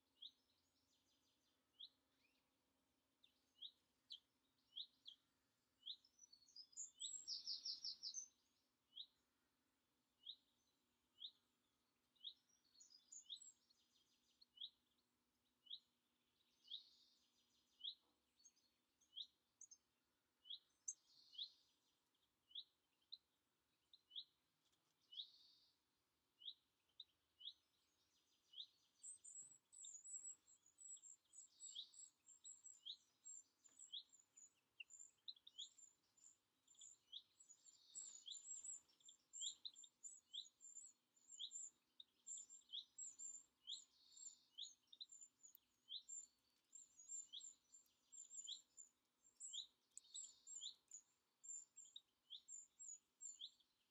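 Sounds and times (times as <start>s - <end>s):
bird chirping: 0.0s - 9.4s, 10.2s - 25.8s, 26.4s - 53.9s
birdsong: 0.0s - 53.9s.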